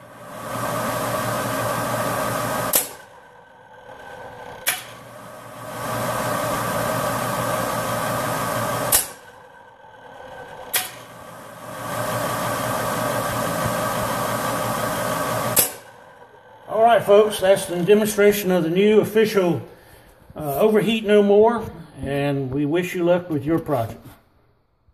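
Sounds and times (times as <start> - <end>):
electric fan humming: 0.0 - 24.0.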